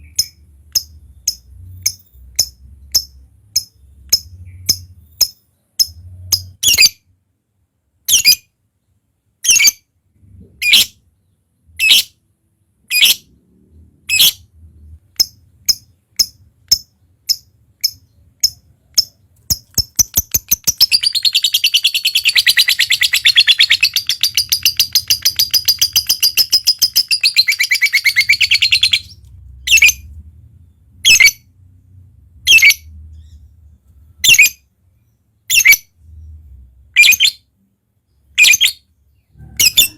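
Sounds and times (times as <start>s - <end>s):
lovebird chirping and trilling: 0.0s - 7.0s, 8.1s - 8.5s, 9.4s - 9.9s, 10.5s - 11.0s, 11.8s - 12.2s, 12.9s - 13.4s, 14.0s - 31.5s, 32.4s - 33.5s, 34.2s - 37.5s, 38.3s - 39.9s.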